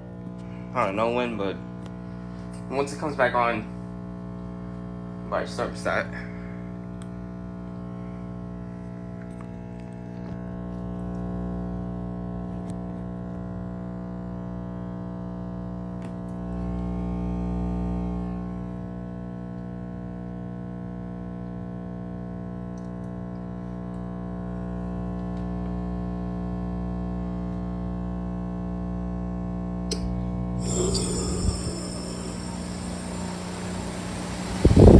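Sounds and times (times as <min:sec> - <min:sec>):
heat pump buzzing hum: 0:00.0 - 0:34.9.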